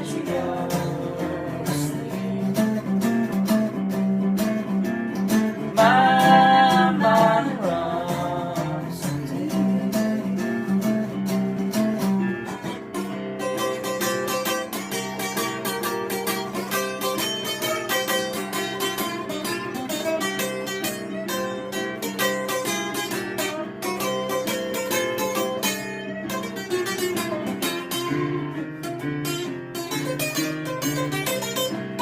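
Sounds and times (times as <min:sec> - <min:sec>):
plucked acoustic guitar: 0:00.0 - 0:32.0.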